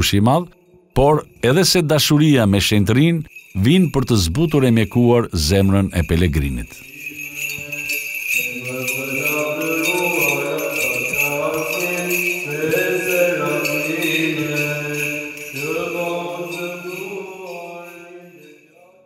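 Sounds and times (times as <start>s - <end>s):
man chanting a hymn: 0.0s - 18.4s
censer bells jingling: 0.0s - 19.0s.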